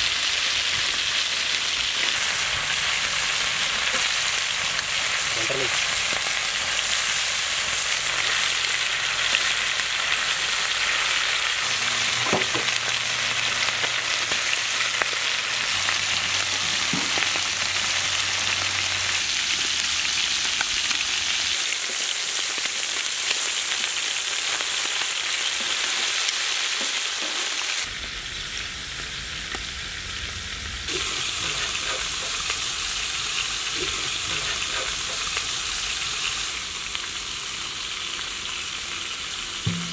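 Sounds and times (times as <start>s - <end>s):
chicken sizzling in a wok: 0.0s - 39.9s.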